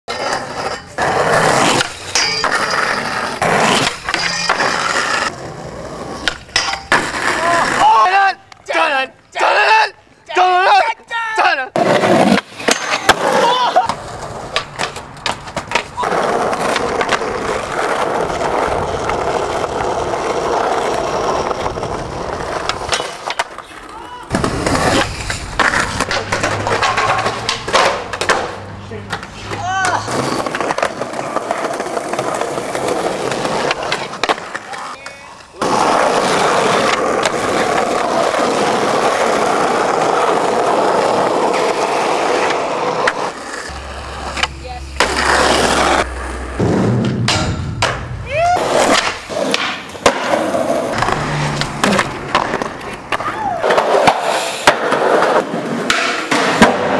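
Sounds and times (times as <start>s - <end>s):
skateboard clacks: 0.1s - 5.4s, 6.0s - 7.9s, 11.8s - 56.9s
skateboard wheels rolling on asphalt: 0.1s - 10.9s, 11.7s - 56.9s.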